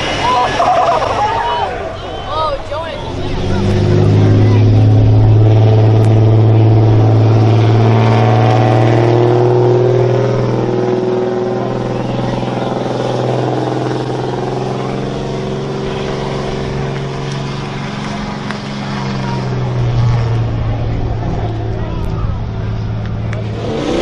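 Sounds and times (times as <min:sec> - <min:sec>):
vehicle engine under load: 0:00.0 - 0:24.0.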